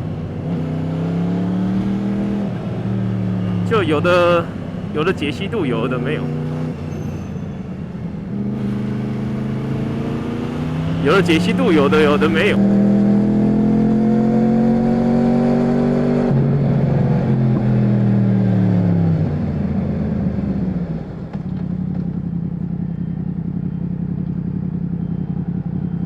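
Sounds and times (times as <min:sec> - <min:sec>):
motorcycle engine revving: 0:00.0 - 0:04.9, 0:05.8 - 0:26.0.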